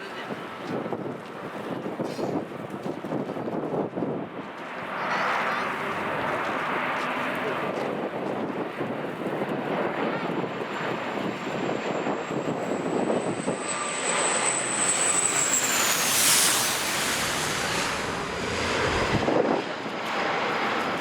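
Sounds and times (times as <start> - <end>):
wind buffeting microphone: 0.3 - 5.0, 5.8 - 21.0
jet airliner passing: 3.8 - 21.0.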